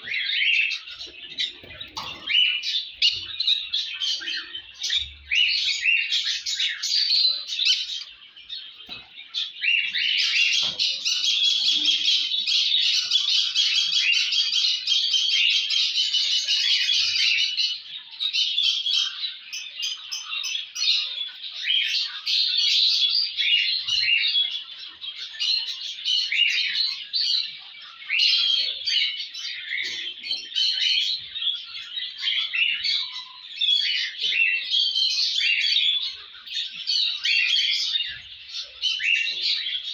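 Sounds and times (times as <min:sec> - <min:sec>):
cage birds chirping: 0:00.0 - 0:39.9.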